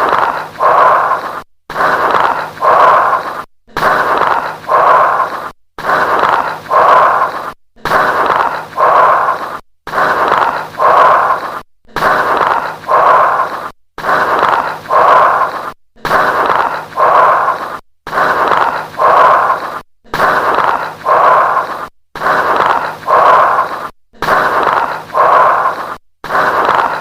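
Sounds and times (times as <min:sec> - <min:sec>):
breathing through stethoscope: 0:00.0 - 0:27.0
crackles in breathing: 0:00.0 - 0:27.0.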